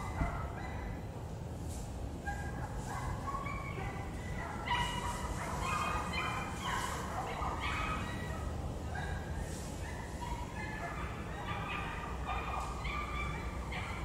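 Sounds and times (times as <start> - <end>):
wild birds calling: 2.6 - 14.0.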